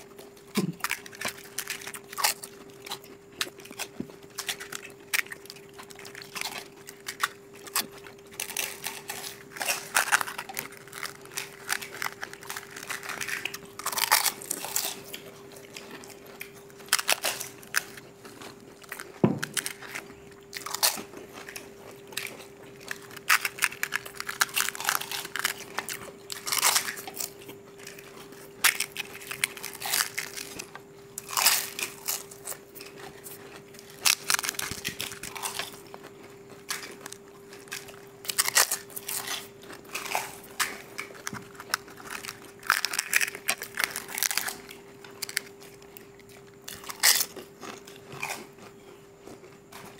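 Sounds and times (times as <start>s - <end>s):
crunching fried shells: 0.0s - 49.9s
people chewing: 0.0s - 49.9s.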